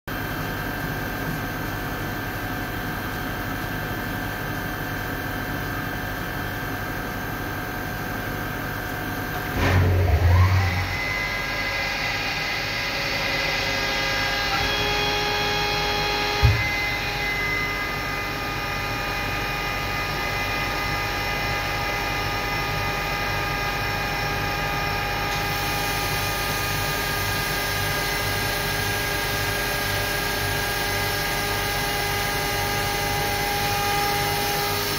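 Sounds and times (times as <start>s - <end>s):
grinding machine hum and whine: 0.1s - 34.9s.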